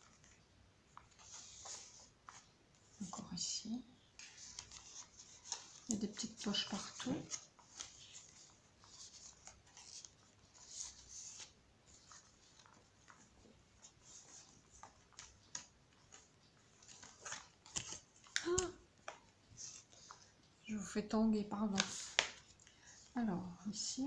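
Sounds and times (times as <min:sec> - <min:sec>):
paper and card rustling: 0:00.0 - 0:20.4, 0:21.6 - 0:23.1.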